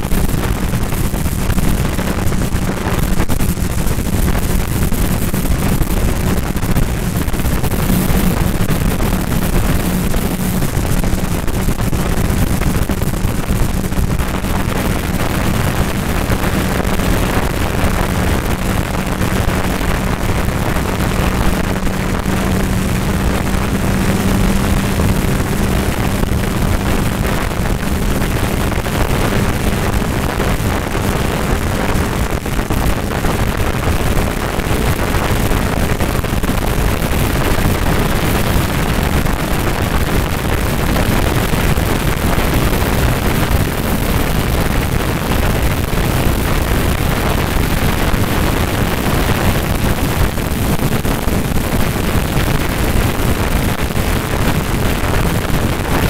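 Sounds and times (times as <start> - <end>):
motorcycle engine running: 0.0 - 56.0
steady engine hum: 0.0 - 56.0
wind rush on microphone: 0.0 - 56.0.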